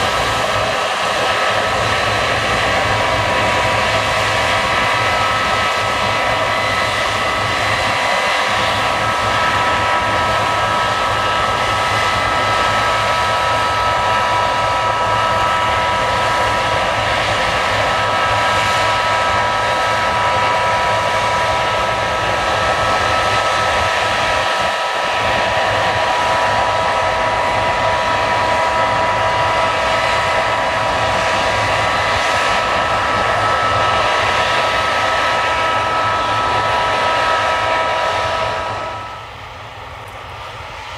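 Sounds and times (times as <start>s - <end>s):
combine harvester rushing noise: 0.0s - 40.9s
high machinery whine: 0.0s - 40.9s.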